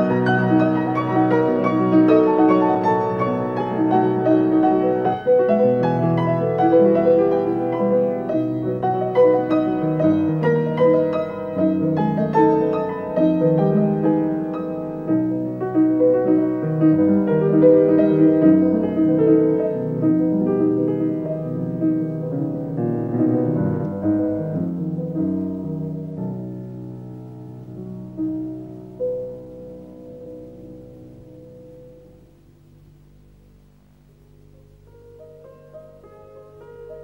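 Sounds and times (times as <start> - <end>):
classical piano passage: 0.0 - 37.0.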